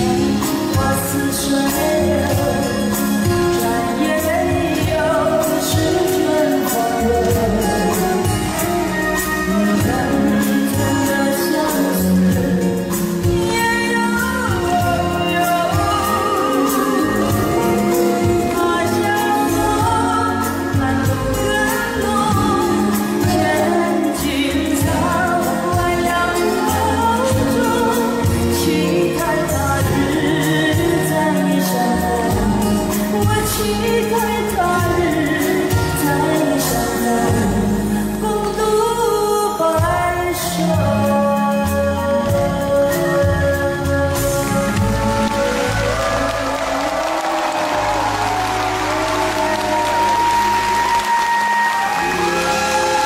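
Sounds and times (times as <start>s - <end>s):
instrumental backing: 0.0s - 53.0s
woman singing into microphone: 0.0s - 53.0s.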